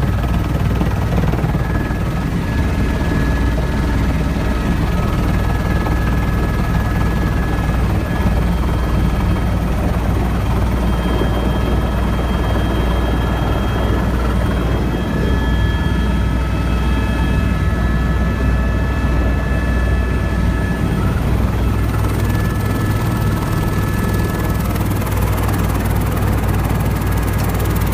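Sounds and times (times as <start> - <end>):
helicopter low drone: 0.0 - 27.9.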